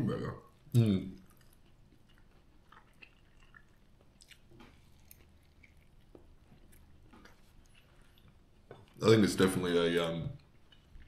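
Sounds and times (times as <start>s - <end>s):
faint chewing with mouth smacks: 0.5s - 11.0s.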